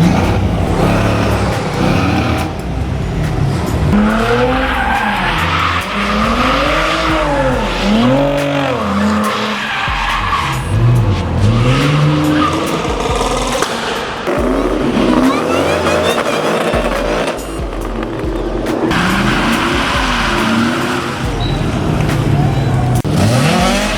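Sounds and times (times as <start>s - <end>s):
car engine revving: 0.0s - 23.9s
tyres squealing: 0.0s - 23.9s.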